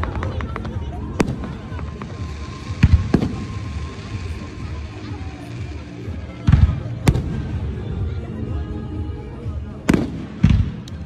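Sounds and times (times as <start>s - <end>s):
fireworks bursting with loud booms: 0.0s - 8.1s, 9.9s - 11.0s
low rumble of fireworks display: 0.0s - 11.0s.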